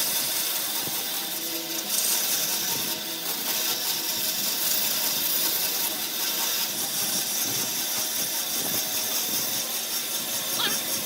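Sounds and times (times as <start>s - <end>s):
power tool grinding wood: 0.0s - 11.0s.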